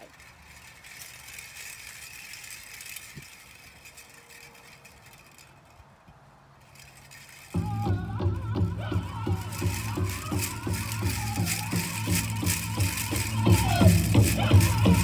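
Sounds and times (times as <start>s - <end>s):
metal cones clinking: 0.0s - 15.0s.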